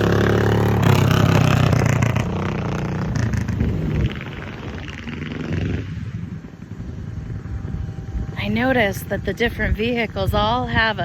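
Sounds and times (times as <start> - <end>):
vehicle passing by: 0.0 - 9.4.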